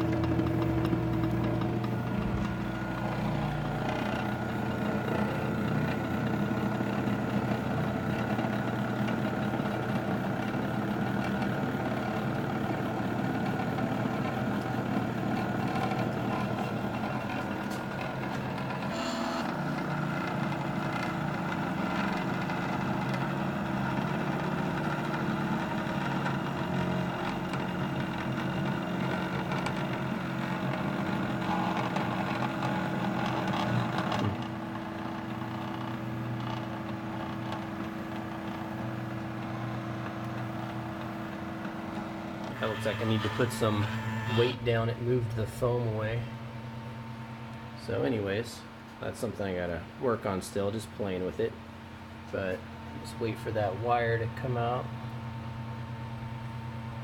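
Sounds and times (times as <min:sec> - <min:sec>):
stepper motors humming and whining: 0:00.0 - 0:48.5.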